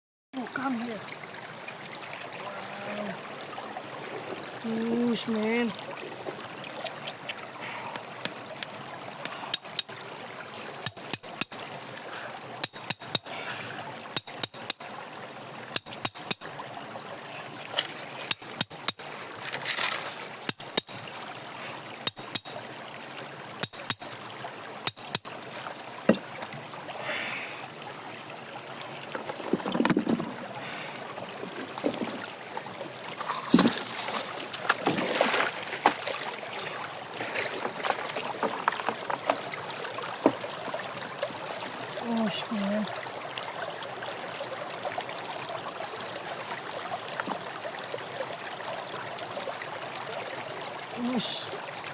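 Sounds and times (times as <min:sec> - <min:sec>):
water sloshing and trickling: 0:00.4 - 0:51.9
water splashes: 0:00.4 - 0:51.9.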